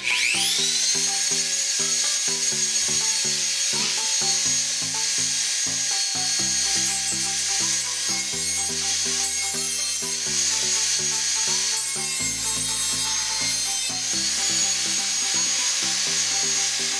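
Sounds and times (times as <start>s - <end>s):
background music with beat: 0.0s - 16.9s
rotary tool cutting wood: 0.0s - 16.9s.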